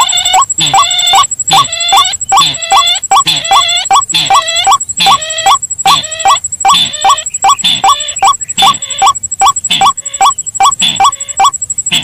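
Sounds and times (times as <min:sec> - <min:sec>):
high-pitched whine: 0:00.0 - 0:12.0
recorded rail bird calls: 0:00.0 - 0:12.0.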